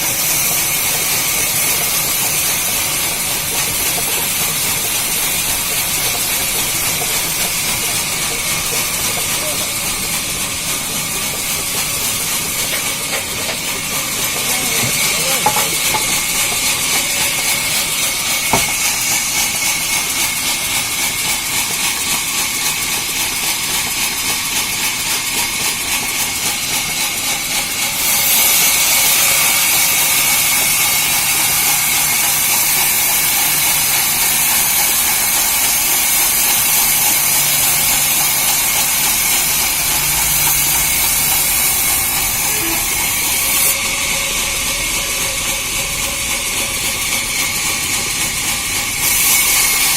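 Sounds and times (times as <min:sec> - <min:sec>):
sawmill saw machinery hissing: 0:00.0 - 0:49.9.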